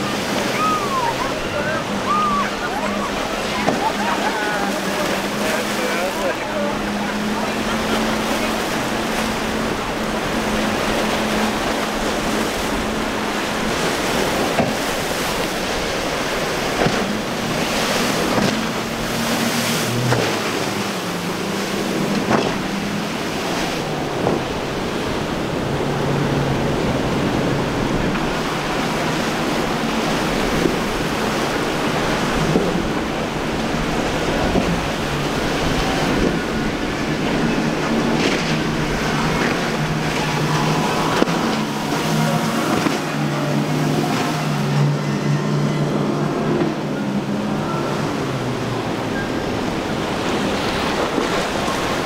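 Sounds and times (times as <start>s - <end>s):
outboard boat engines droning: 0.0s - 52.0s
waves and spray rushing: 0.0s - 52.0s.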